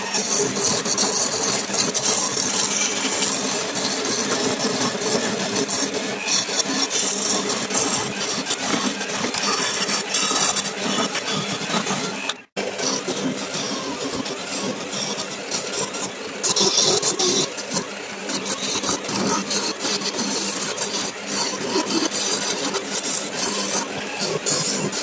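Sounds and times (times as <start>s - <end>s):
turning tool scraping wood: 0.0s - 25.0s
wood lathe humming: 0.0s - 25.0s.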